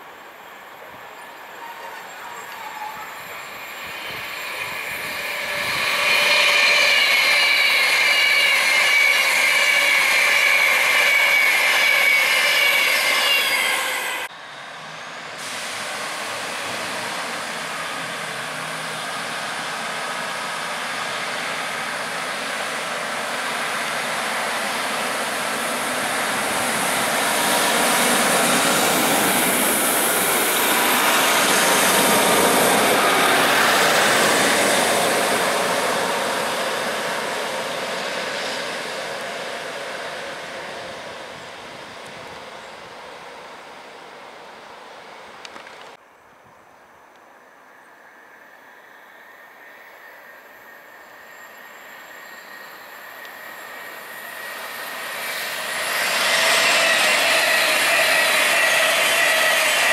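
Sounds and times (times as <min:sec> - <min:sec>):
wheels hissing on rail: 0:00.0 - 0:45.4, 0:48.0 - 0:59.9
diesel train passing: 0:00.0 - 0:46.0, 0:47.5 - 0:59.9
electric train passing at speed: 0:00.0 - 0:46.0, 0:47.2 - 0:59.9.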